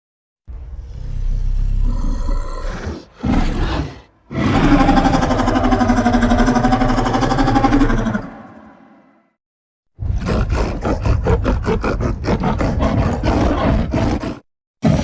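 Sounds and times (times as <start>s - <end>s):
monster growl: 0.8s - 9.1s, 10.0s - 15.0s
monster roar: 0.8s - 9.2s, 10.0s - 15.0s.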